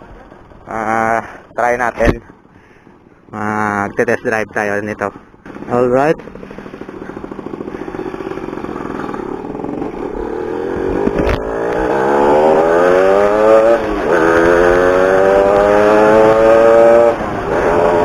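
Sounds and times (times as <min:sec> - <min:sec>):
motorcycle engine accelerating: 0:03.3 - 0:18.0.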